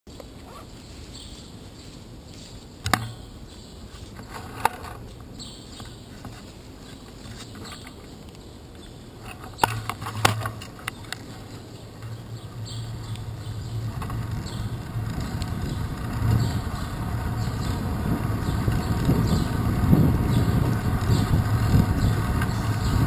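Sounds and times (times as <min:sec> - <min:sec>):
bicycle road noise: 0:00.1 - 0:23.0.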